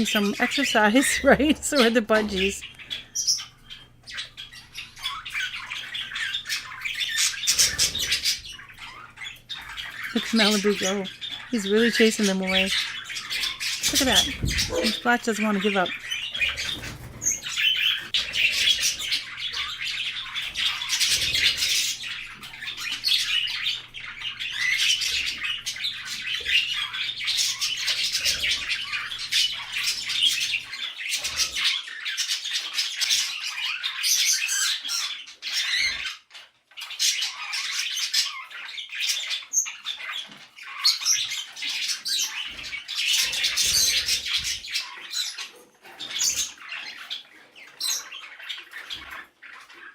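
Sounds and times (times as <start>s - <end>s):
budgerigars chattering and squawking: 0.0s - 49.9s.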